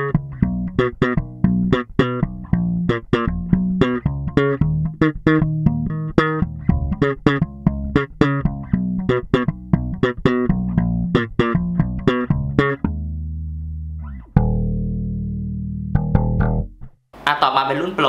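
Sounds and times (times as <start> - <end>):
electric bass plucked notes: 0.0 - 17.0.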